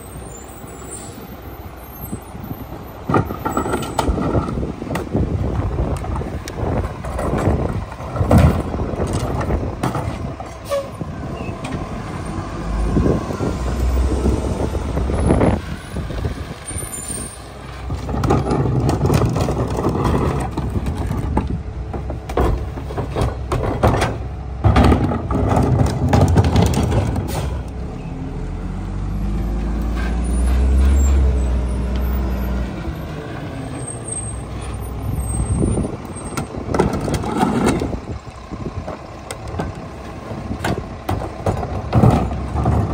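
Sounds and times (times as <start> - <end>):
garbage truck diesel engine: 0.0 - 42.9
trash carts banging: 2.4 - 42.9.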